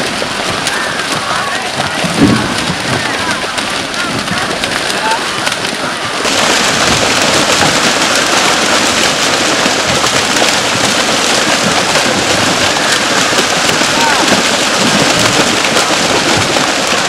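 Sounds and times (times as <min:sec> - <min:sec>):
fish splashing in net: 0:00.0 - 0:17.0.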